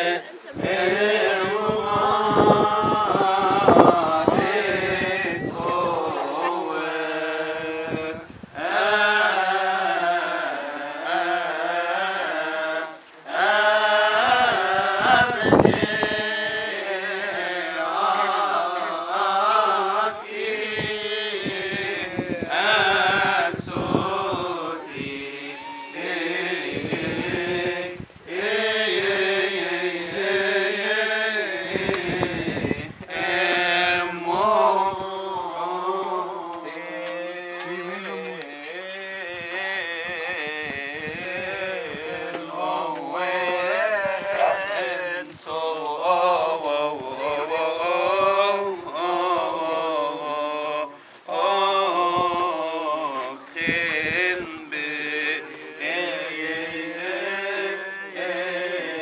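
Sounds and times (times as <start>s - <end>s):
church hymn chanted: 0.0s - 59.0s.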